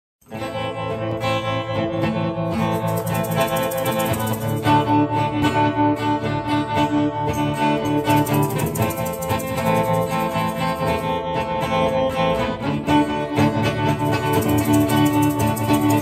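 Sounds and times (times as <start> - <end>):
strummed acoustic guitar: 0.2 - 16.0
fiddle playing held notes: 0.3 - 16.0.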